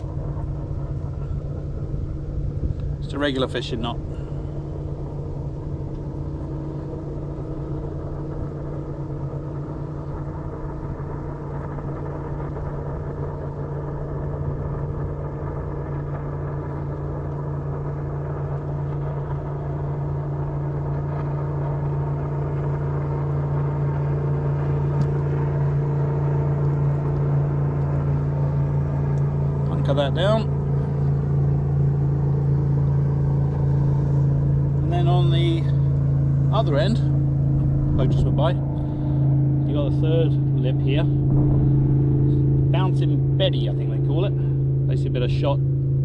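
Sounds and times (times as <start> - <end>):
motorboat engine humming: 0.0 - 46.0.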